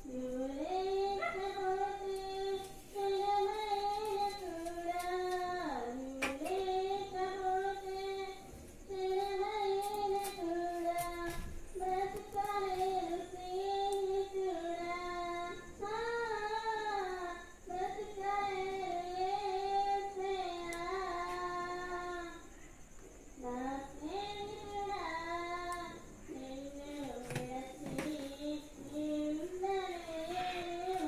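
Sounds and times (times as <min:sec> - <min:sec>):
child singing unaccompanied: 0:00.0 - 0:22.6, 0:23.3 - 0:31.0.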